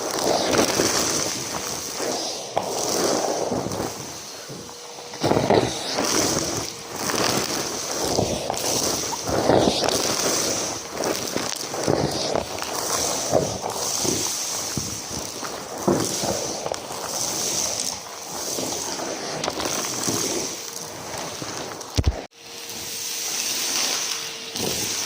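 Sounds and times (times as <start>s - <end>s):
debris crackling in vacuum: 0.0s - 25.0s
vacuum cleaner running: 0.0s - 25.0s.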